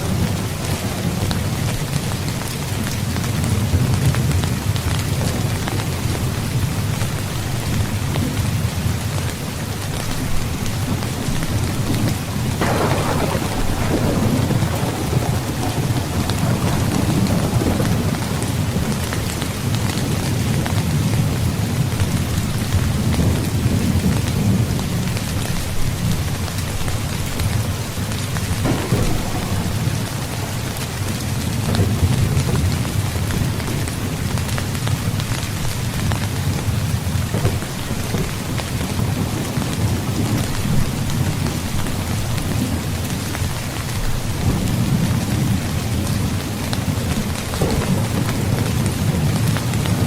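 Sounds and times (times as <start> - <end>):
heavy rain falling: 0.0 - 50.0
low rumble of thunder: 0.0 - 50.0.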